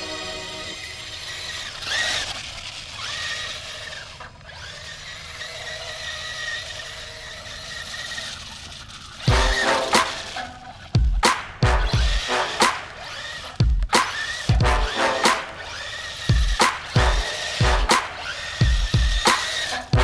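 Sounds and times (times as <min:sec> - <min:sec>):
electric motor whining: 0:00.0 - 0:11.1, 0:11.9 - 0:15.0, 0:15.6 - 0:20.0.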